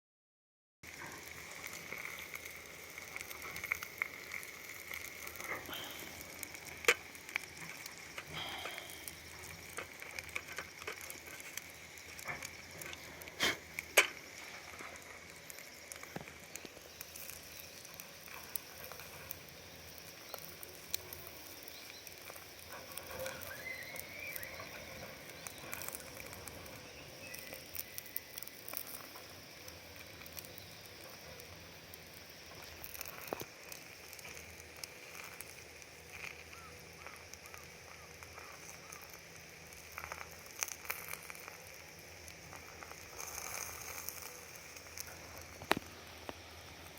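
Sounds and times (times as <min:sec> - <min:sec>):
campfire crackling: 0:00.8 - 0:46.9
sharp pops and cracks of fire: 0:00.8 - 0:46.9
steady sizzling hiss: 0:00.8 - 0:46.9.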